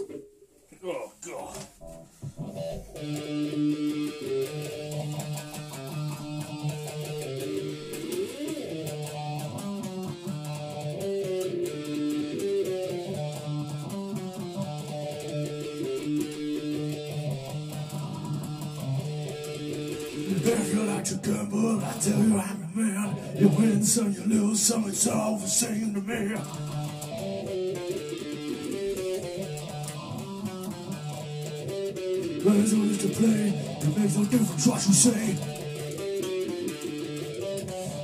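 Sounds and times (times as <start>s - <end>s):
electric guitar strumming chords: 1.2s - 38.0s.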